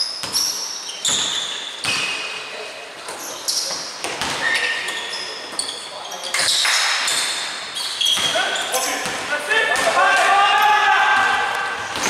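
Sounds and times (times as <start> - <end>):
sneaker squeaks: 0.0 - 10.7.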